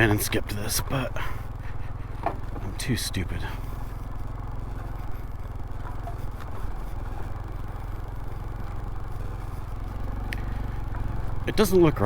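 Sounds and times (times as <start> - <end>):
motorcycle engine running at low speed: 0.0 - 12.0.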